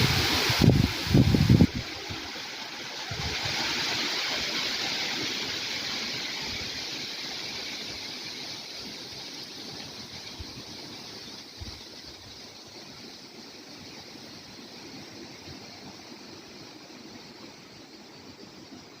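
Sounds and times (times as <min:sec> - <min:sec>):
wind rustling tree leaves: 0:00.0 - 0:19.0.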